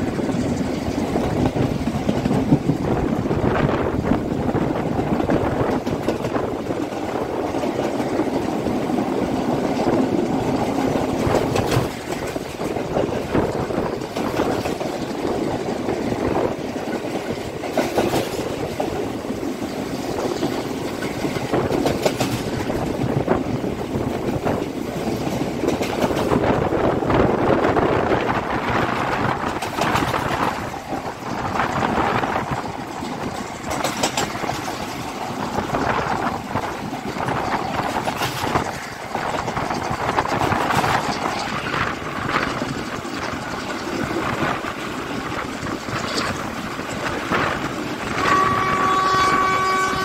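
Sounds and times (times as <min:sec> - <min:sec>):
track clacks: 0:00.0 - 0:50.0
train wheels rumbling on rails: 0:00.0 - 0:50.0.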